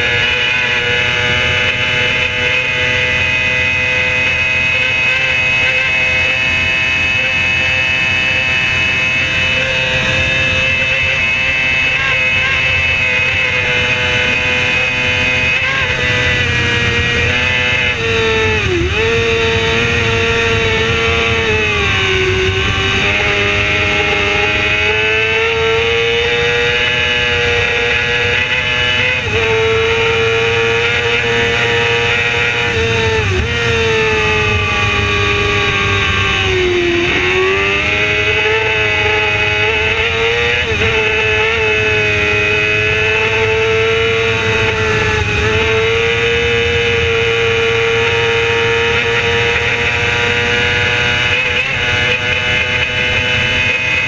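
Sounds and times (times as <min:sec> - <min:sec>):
racing motorcycle engine high revs: 0:00.0 - 0:54.0
rush of wind: 0:06.5 - 0:54.0.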